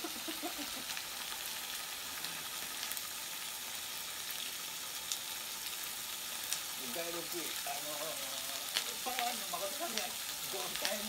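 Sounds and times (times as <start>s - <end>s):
food sizzling in a pan: 0.0s - 11.0s
sharp pops of frying: 0.0s - 11.0s.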